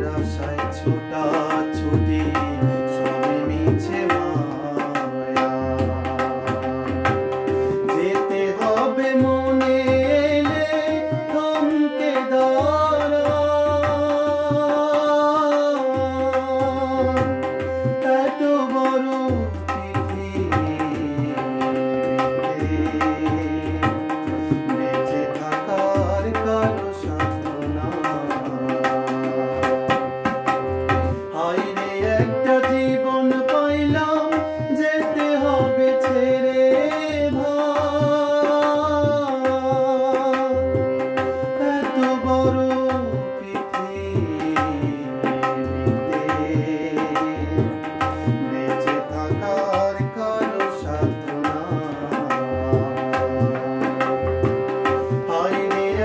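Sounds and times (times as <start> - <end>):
harmonium melody: 0.0 - 56.0
tabla fast rhythm: 0.0 - 56.0.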